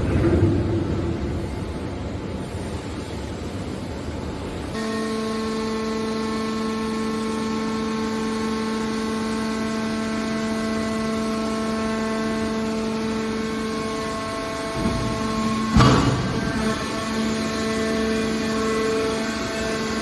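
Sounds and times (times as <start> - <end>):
low machine rumble: 0.0 - 20.0
steady pitched machine hum: 0.0 - 20.0.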